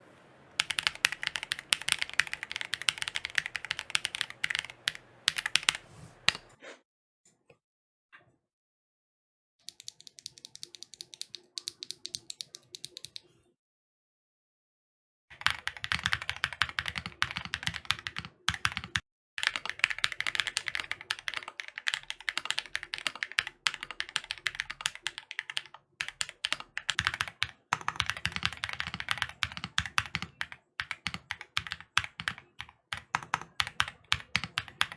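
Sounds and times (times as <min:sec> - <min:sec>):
fast typing on mechanical keyboard: 0:00.6 - 0:06.5, 0:09.7 - 0:13.2, 0:15.3 - 0:34.9.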